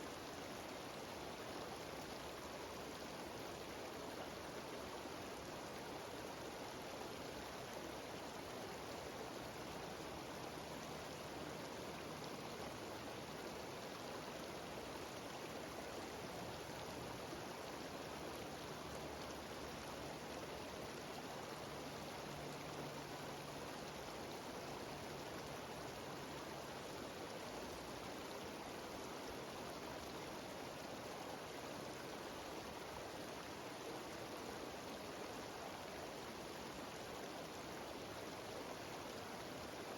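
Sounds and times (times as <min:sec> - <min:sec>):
waterfall rushing water: 0:00.0 - 0:39.9.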